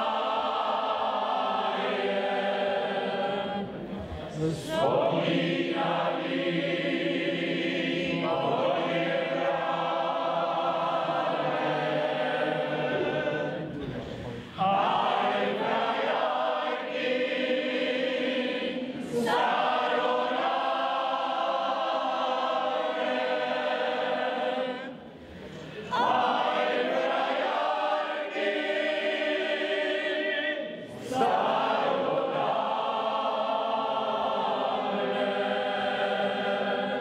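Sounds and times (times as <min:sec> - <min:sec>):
mixed choir singing unaccompanied: 0:00.0 - 0:37.0.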